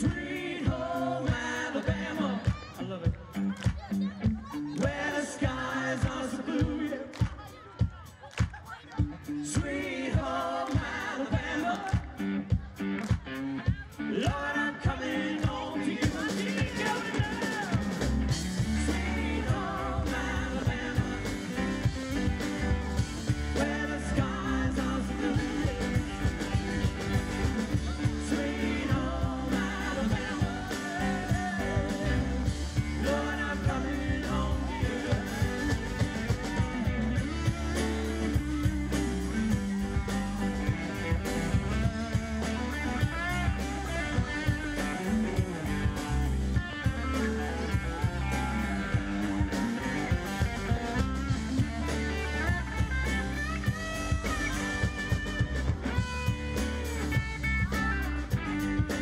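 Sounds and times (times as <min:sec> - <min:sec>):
drum kit beat: 0:00.0 - 0:59.0
electric and acoustic guitars: 0:00.0 - 0:59.0
keyboard: 0:00.0 - 0:59.0.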